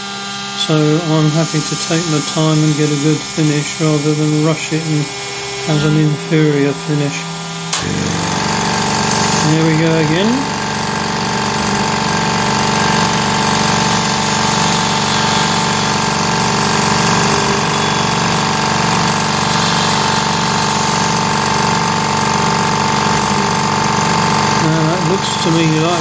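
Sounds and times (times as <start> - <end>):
air compressor running: 0.0 - 26.0
cnc mill cutting: 0.0 - 26.0.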